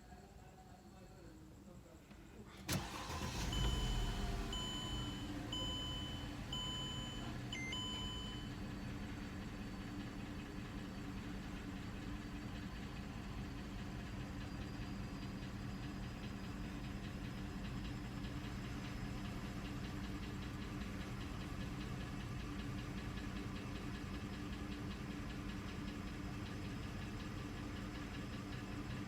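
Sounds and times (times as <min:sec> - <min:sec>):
car engine idling with knocking: 0:02.6 - 0:29.0.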